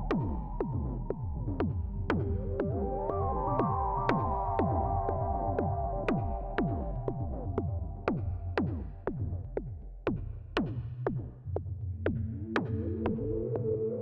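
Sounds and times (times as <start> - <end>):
low synth bass drone: 0.0 - 9.9, 11.2 - 14.0.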